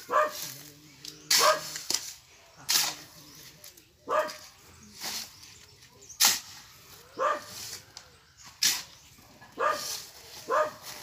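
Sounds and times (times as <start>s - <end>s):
shovel scraping wet cement: 0.0s - 11.0s.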